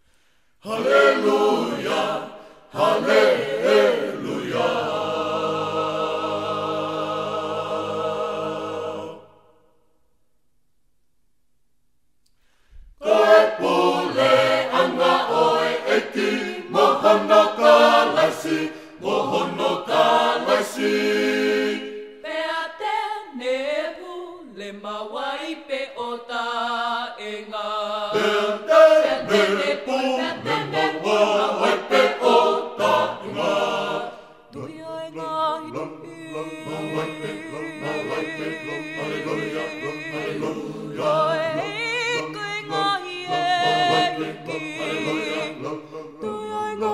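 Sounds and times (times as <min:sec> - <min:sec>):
vocal group singing a hymn: 0:00.6 - 0:09.7, 0:13.0 - 0:46.9.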